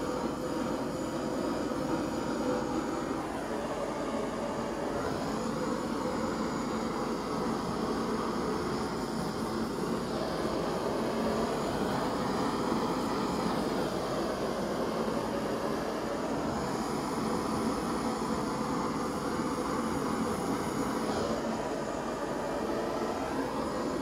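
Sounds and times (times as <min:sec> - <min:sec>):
gas torch flame hissing: 0:00.0 - 0:24.0.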